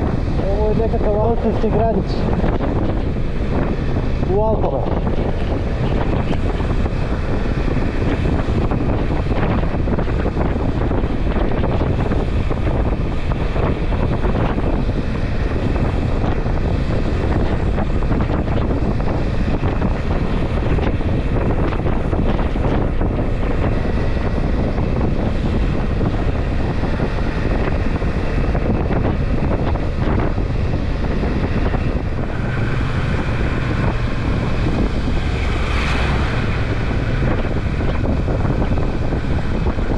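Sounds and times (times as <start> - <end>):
motorcycle engine and road noise: 0.0 - 39.9
wind buffeting microphone: 0.0 - 39.9.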